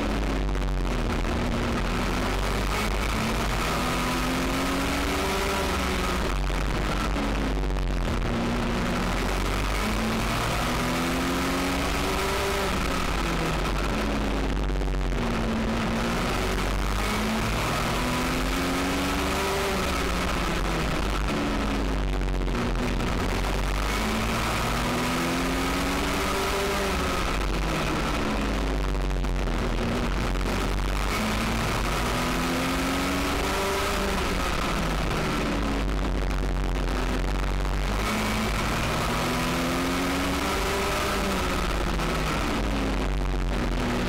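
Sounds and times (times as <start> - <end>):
motorcycle engine revving: 0.0 - 44.0
wind and road noise: 0.0 - 44.0.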